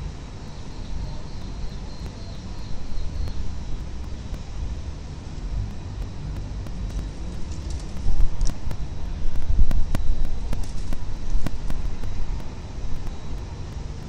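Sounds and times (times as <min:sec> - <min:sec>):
city traffic: 0:00.0 - 0:14.0
wind rumble: 0:00.0 - 0:14.0
sharp clicks: 0:00.4 - 0:14.0.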